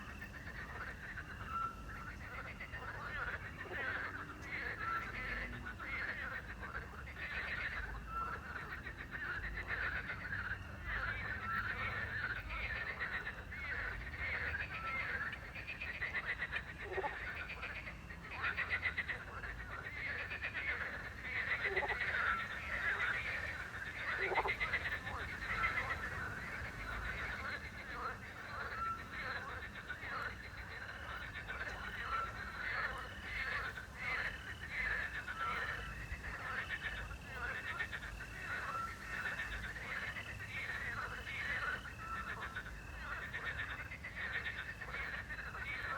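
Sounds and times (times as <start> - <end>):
crickets chirping: 0.0 - 45.9
frogs croaking: 0.0 - 45.9
rapid pulsing frog trills: 0.0 - 45.9.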